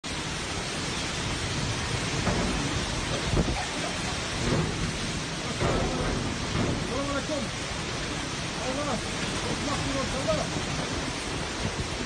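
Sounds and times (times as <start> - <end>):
heavy rain pouring: 0.0 - 12.0
low rumbles: 0.0 - 12.0.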